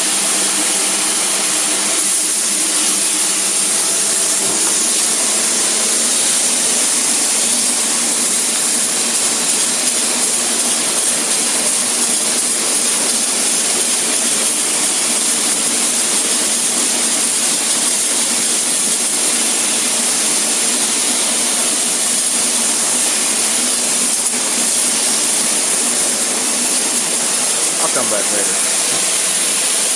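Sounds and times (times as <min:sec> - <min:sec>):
spray foam gun hissing: 0:00.0 - 0:29.9.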